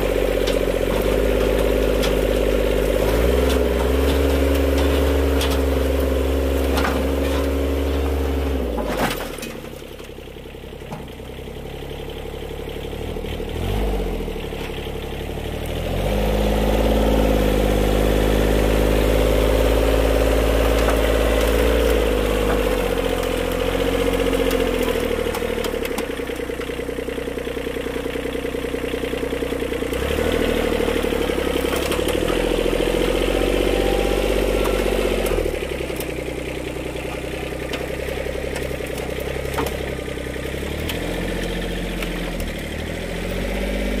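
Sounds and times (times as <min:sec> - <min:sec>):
tractor diesel engine revving: 0:00.0 - 0:44.0.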